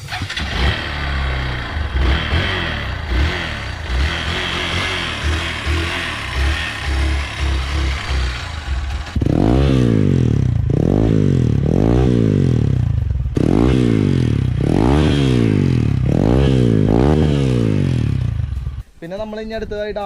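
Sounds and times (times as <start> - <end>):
motorcycle engine revving: 0.0 - 18.8.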